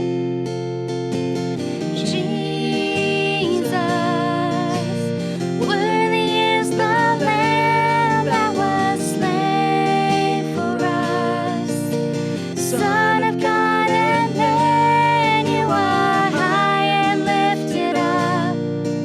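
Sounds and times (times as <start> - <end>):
acoustic guitar: 0.0 - 19.0
person singing long notes: 2.0 - 18.6.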